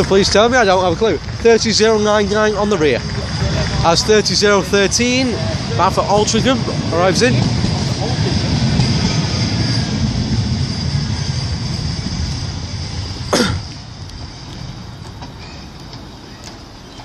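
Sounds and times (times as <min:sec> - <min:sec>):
tram rumble with high whine: 0:00.0 - 0:17.0.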